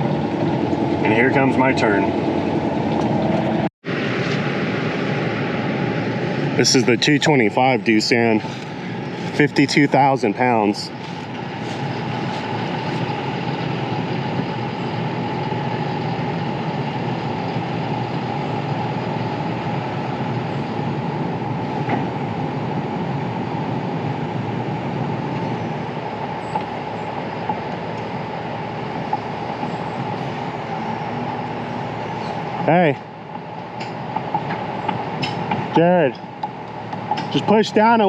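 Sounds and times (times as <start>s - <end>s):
heavy diesel machinery grinding: 0.0s - 38.0s
mechanical whine: 0.0s - 38.0s.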